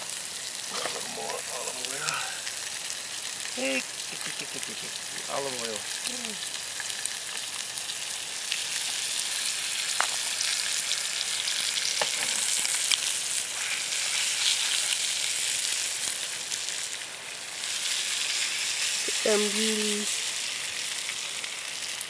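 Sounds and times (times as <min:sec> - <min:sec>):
fish sizzling in a pan: 0:00.0 - 0:22.0.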